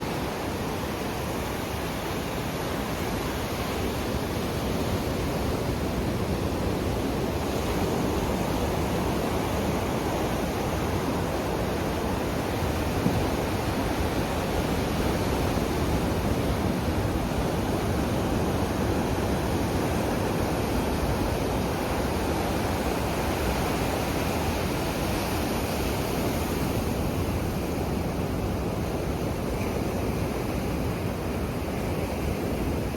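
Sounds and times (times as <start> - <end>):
sea surf and wind: 0.0 - 32.9.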